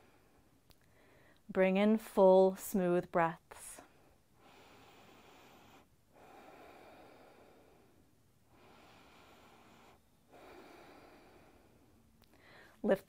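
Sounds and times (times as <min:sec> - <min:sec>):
woman breathing slowly: 0:00.0 - 0:01.5, 0:03.7 - 0:12.8.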